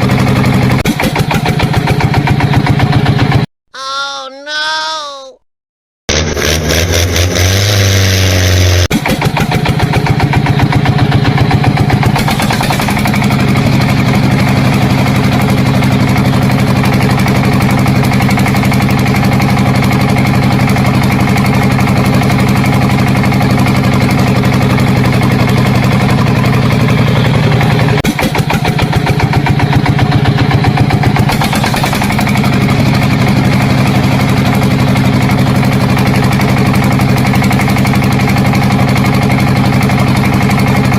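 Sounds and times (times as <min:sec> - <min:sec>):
engine running: 0:00.0 - 0:03.5, 0:06.1 - 0:40.9.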